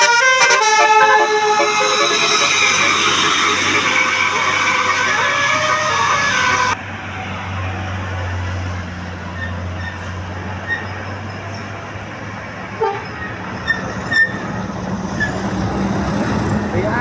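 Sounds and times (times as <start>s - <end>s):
bus engine droning: 0.0s - 17.0s
road noise: 0.0s - 17.0s.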